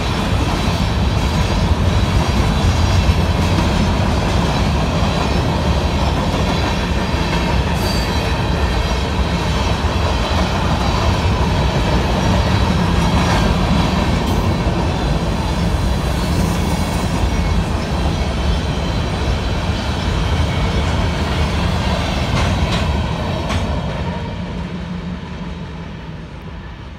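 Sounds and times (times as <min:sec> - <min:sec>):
train rumble: 0:00.0 - 0:26.9.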